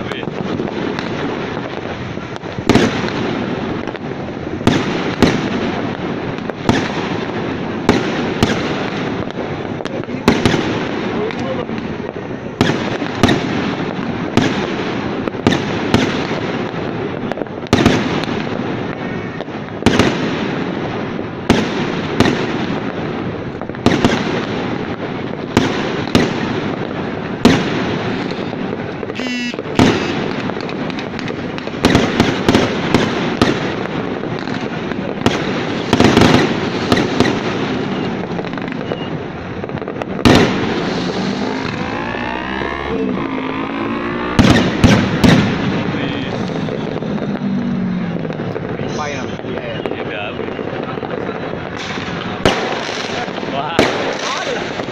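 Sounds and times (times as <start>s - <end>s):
fireworks bangs: 0.0s - 54.9s
fireworks display din: 0.0s - 54.9s.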